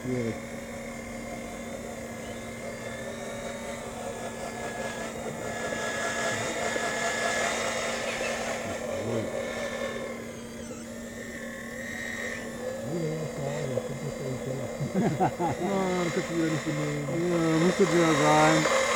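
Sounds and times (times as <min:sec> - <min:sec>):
hydraulic pump whining: 0:00.0 - 0:18.9.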